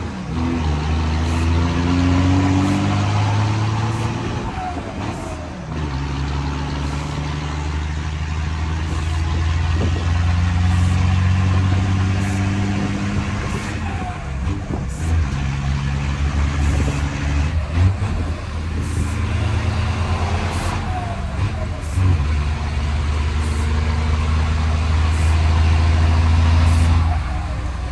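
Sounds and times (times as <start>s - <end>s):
diesel truck engine revving: 0.0s - 27.9s.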